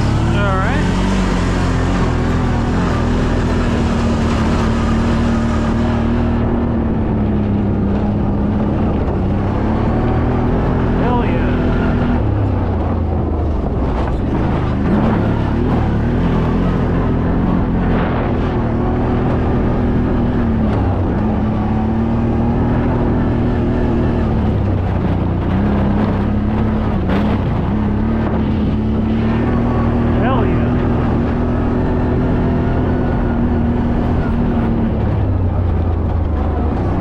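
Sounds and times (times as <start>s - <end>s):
atv engine running: 0.0s - 37.0s
low rumble: 0.0s - 37.0s.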